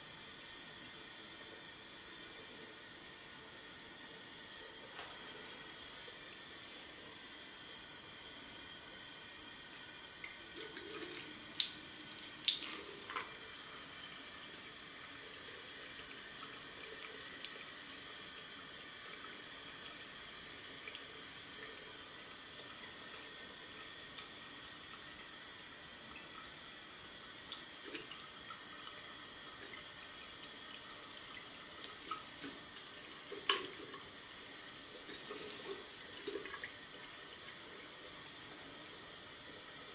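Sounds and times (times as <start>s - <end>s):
tap water hissing into basin: 0.0s - 39.9s.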